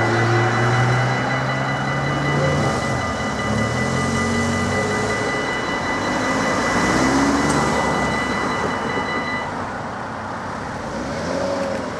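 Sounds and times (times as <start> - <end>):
level crossing warning bells: 0.0 - 10.2
cars driving past: 0.0 - 11.9.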